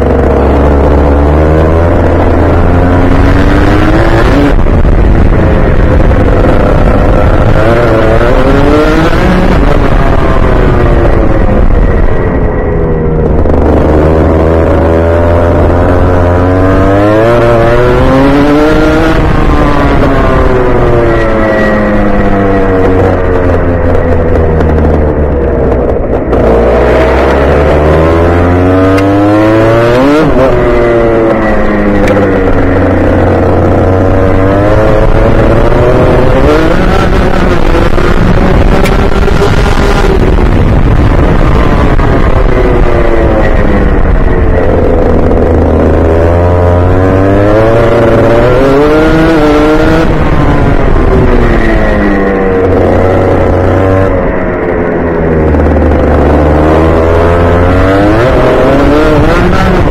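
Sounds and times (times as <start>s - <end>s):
two-stroke kart engine revving: 0.0s - 59.9s.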